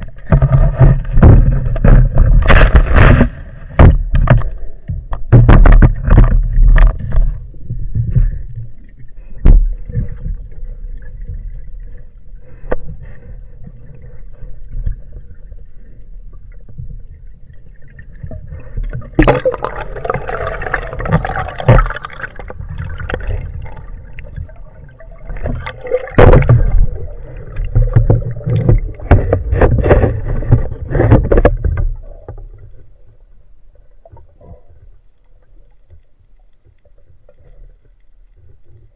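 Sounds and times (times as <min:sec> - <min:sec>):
rushing bubbling water: 0:00.0 - 0:35.9
underwater knocks and thumps: 0:00.0 - 0:38.9.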